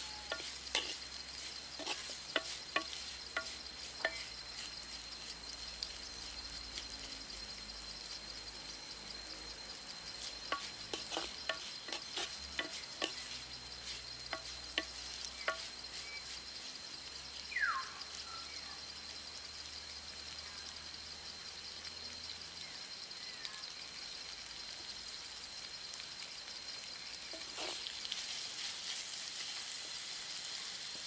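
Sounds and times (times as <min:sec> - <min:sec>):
food frying in a pan: 0:00.0 - 0:31.0
high insect drone: 0:00.0 - 0:31.0.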